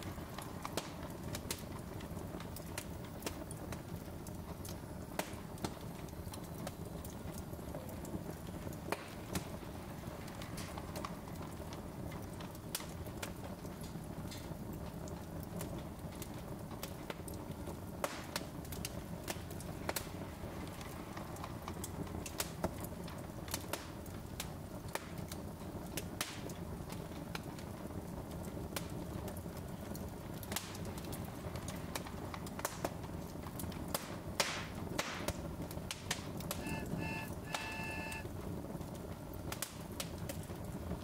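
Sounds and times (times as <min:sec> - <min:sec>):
fire low rumble: 0:00.0 - 0:41.0
wood fire crackling and popping: 0:00.0 - 0:41.0.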